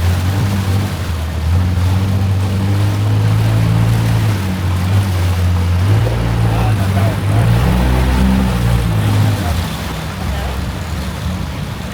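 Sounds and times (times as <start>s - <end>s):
boat engine droning: 0.0s - 11.9s.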